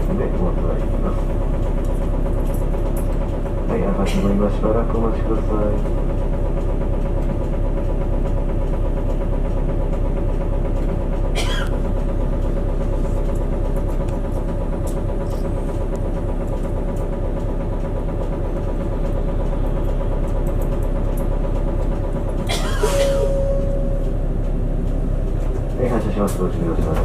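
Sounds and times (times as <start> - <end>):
bus engine idling: 0.0 - 27.0.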